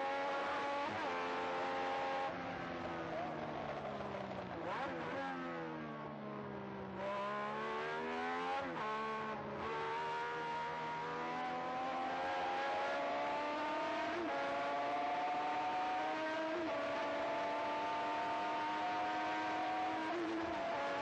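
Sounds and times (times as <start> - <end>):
racing car engine at full throttle: 0.0 - 21.0.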